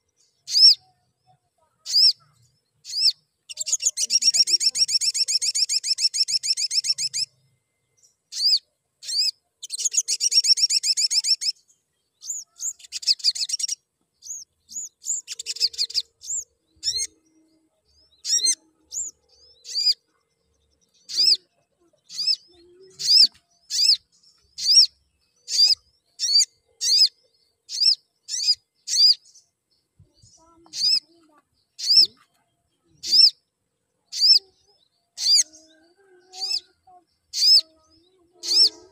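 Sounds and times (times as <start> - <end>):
sunbird trills and chirps: 0.0 - 38.9.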